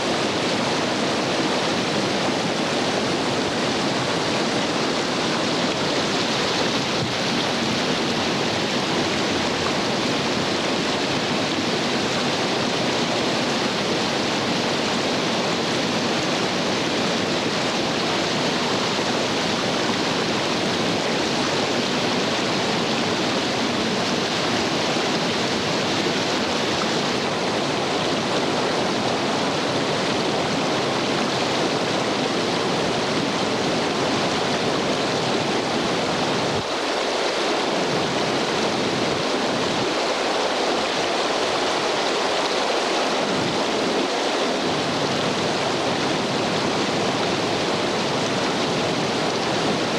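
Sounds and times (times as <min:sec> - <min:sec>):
water rushing over rocks: 0:00.0 - 0:49.9.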